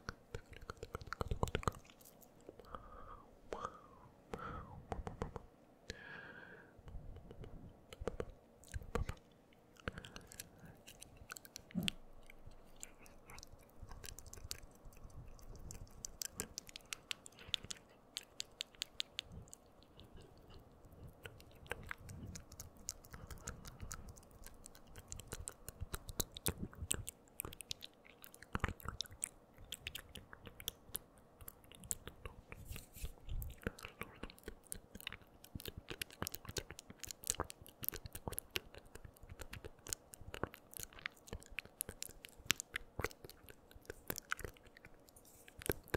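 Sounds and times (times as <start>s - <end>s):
wet mouth clicks and smacks: 0.0s - 2.8s, 6.9s - 45.9s.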